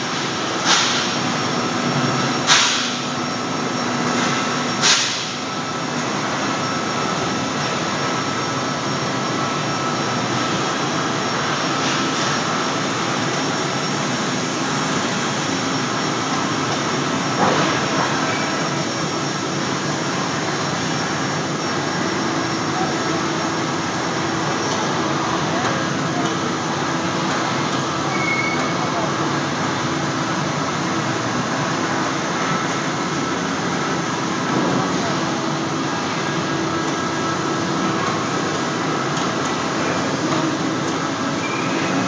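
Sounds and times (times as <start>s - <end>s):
machine line running: 0.0s - 42.0s.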